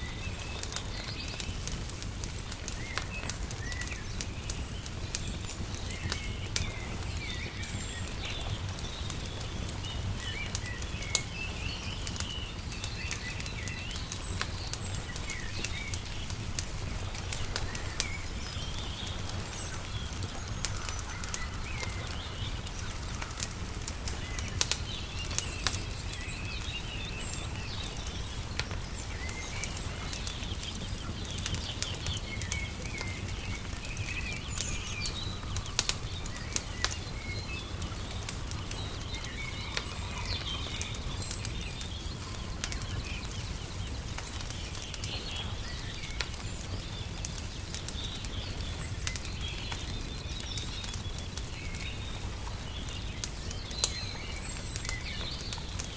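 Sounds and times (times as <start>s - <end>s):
small birds chirping: 0.0s - 55.9s
wood fire crackling and popping: 0.0s - 55.9s.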